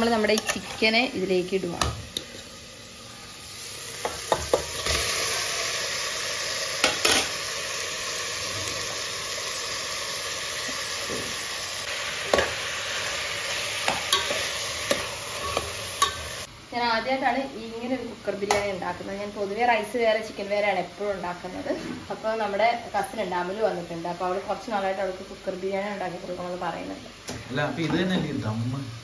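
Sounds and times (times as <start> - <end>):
chicken sizzling in masala: 0.0 - 29.0.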